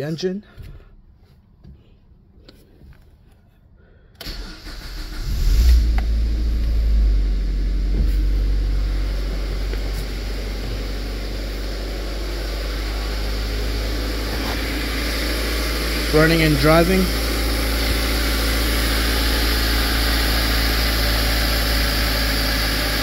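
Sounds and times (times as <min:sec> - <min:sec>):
car engine starting and idling: 0:04.1 - 0:23.0.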